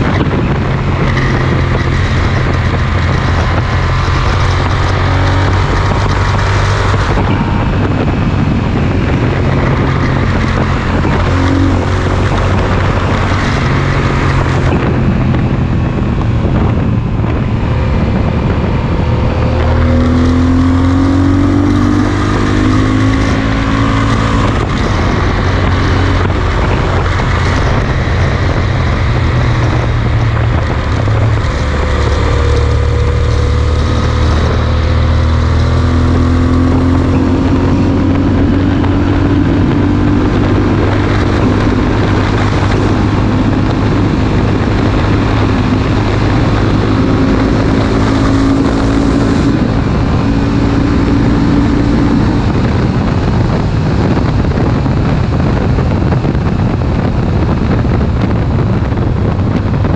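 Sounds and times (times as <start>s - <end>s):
motorcycle engine cruising: 0.0s - 59.9s
wind rushing: 0.0s - 59.9s.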